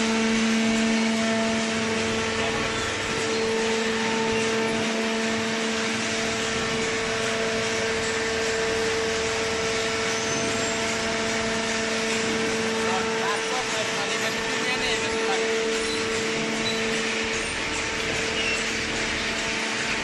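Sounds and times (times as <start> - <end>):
hydraulic power unit humming: 0.0 - 20.0.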